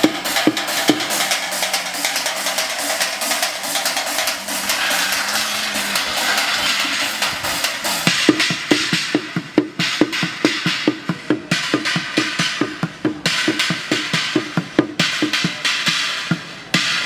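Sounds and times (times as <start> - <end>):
drumming on metal and buckets: 0.0 - 17.0.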